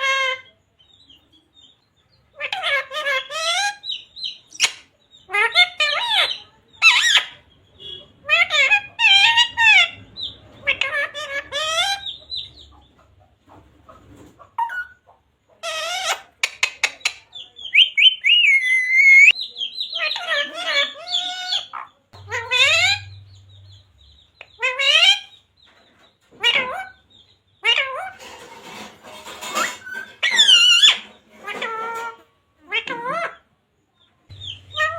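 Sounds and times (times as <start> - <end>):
parrot calling and chattering: 0.0 - 0.6, 2.3 - 12.6, 14.6 - 25.4, 26.3 - 33.5, 34.3 - 34.9.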